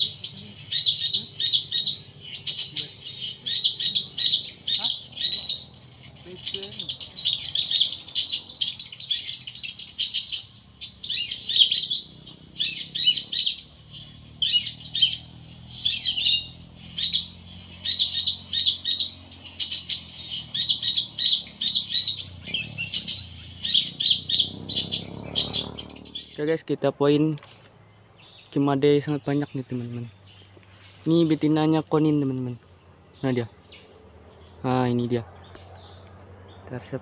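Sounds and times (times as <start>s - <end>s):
high insect whine: 0.0s - 37.0s
small birds chirping: 0.0s - 37.0s.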